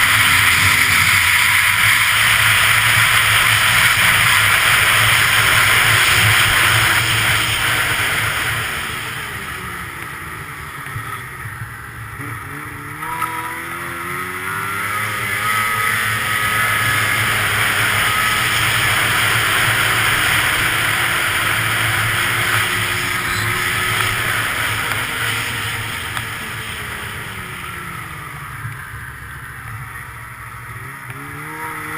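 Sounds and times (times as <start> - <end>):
snowmobile engine revving: 0.0 - 31.9.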